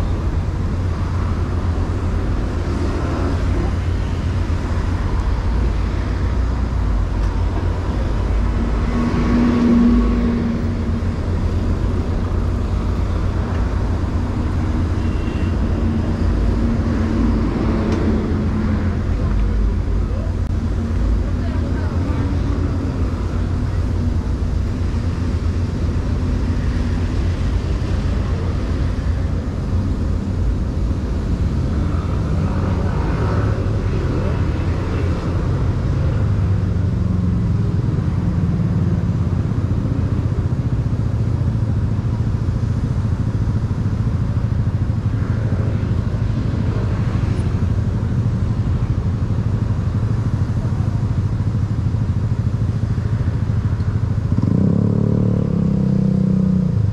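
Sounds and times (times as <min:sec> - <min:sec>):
city traffic rumble: 0:00.0 - 0:56.9.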